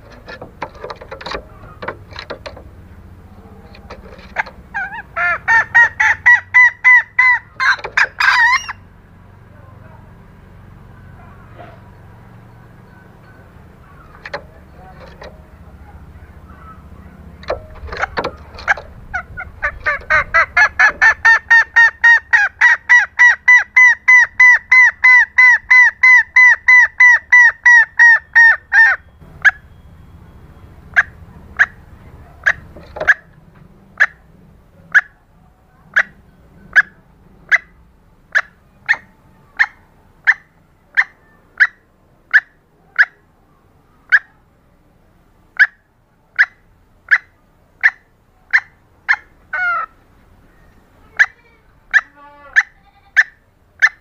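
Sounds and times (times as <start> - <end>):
junglefowl hen clucking: 0.0 - 8.9, 11.1 - 29.7, 30.8 - 43.3, 44.0 - 44.4, 45.5 - 54.0.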